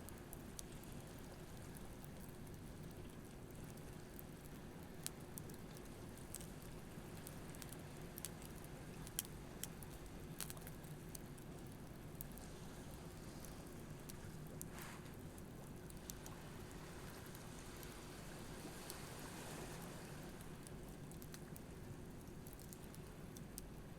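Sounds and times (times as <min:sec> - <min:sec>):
campfire crackling and popping: 0:00.1 - 0:18.0, 0:20.2 - 0:23.9.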